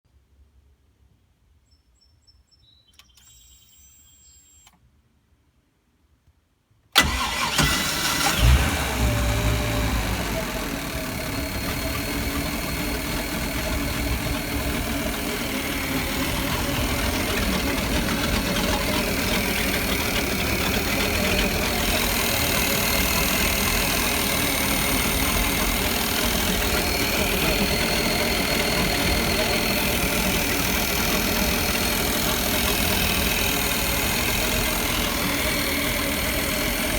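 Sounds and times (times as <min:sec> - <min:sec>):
boat engine starting and idling: 0:07.0 - 0:36.9.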